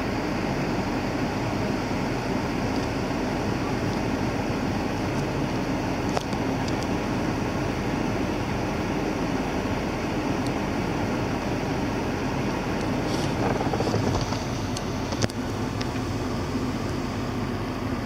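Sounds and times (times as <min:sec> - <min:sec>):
car engine idling: 0:00.0 - 0:18.0
car fan noise: 0:00.0 - 0:18.0.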